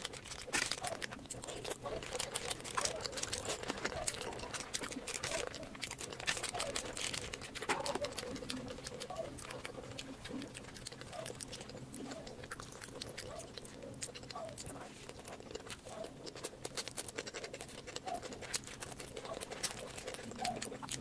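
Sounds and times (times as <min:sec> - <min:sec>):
person chewing with mouth clicks: 0:00.0 - 0:21.0.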